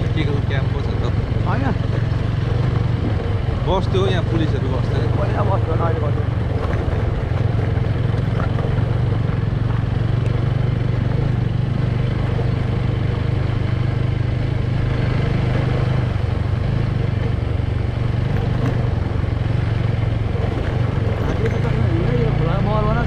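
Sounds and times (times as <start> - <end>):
motorbike engine running: 0.0 - 23.0.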